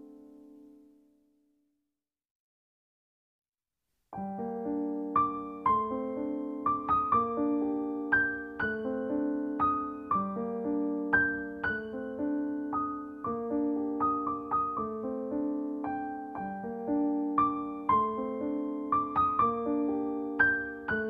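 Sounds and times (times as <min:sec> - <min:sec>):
soft piano music: 0:00.0 - 0:01.3, 0:04.2 - 0:21.0.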